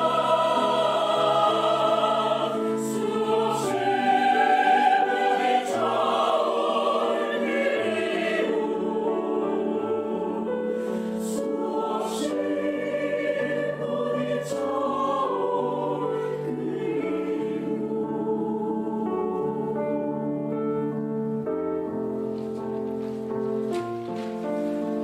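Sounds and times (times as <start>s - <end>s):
mixed choir singing: 0.0s - 20.6s.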